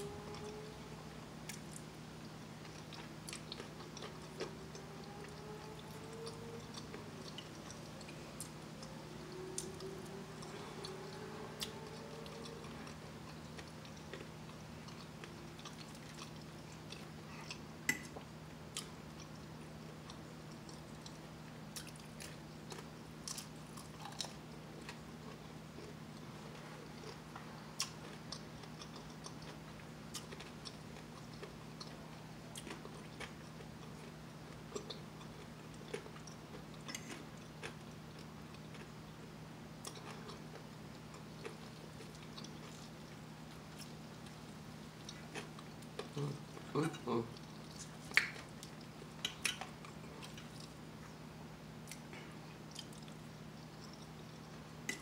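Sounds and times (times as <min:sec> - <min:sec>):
steady low hum: 0:00.0 - 0:55.0
person chewing food: 0:00.1 - 0:51.2, 0:51.8 - 0:55.0.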